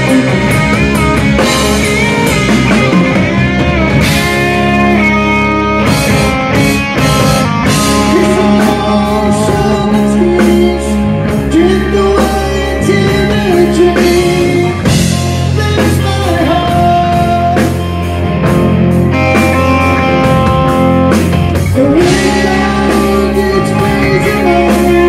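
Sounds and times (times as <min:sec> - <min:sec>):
drum kit: 0:00.0 - 0:25.0
electric bass: 0:00.0 - 0:25.0
electric guitars: 0:00.0 - 0:25.0.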